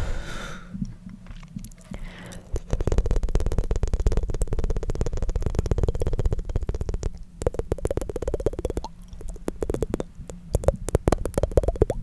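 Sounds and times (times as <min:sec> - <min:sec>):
tongue fluttering clicks: 0:01.6 - 0:12.0.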